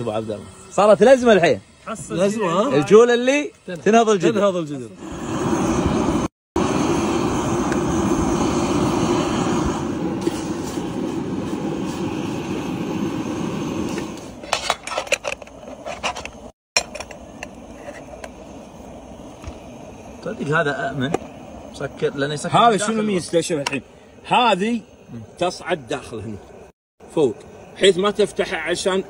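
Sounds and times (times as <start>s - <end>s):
gas burner roaring: 0.0s - 29.0s.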